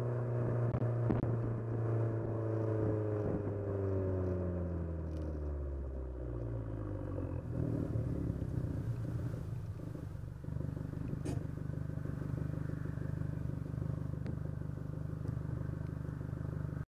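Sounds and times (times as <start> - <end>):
car exhaust engine idling: 0.0 - 16.8.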